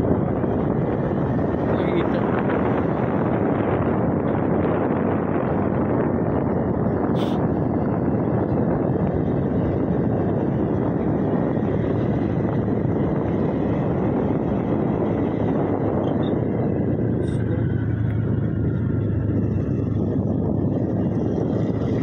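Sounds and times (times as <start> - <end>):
motorcycle riding with wind noise: 0.0 - 22.0.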